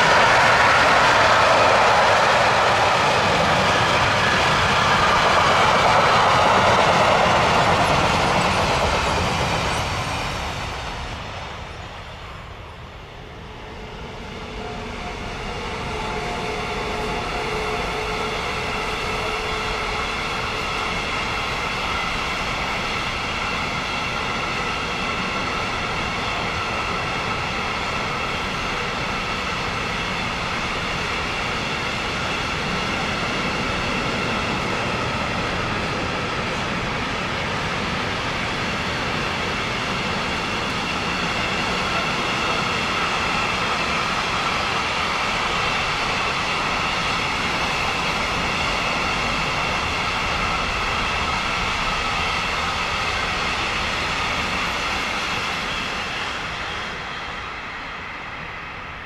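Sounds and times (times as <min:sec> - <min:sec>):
freight train rolling on rails: 0:00.0 - 0:59.0
high ringing of train wheels: 0:00.0 - 0:59.0.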